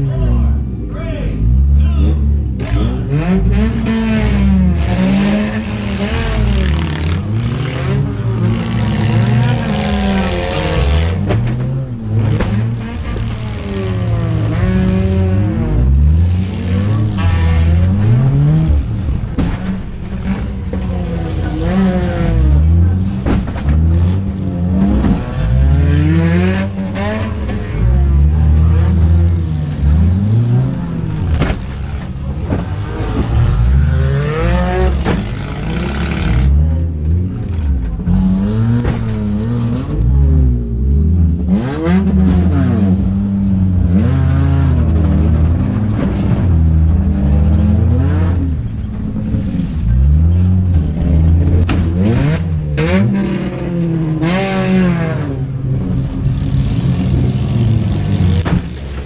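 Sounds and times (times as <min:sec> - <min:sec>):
car engines revving: 0:00.0 - 0:59.0
cars clanking and knocking: 0:01.5 - 0:59.0.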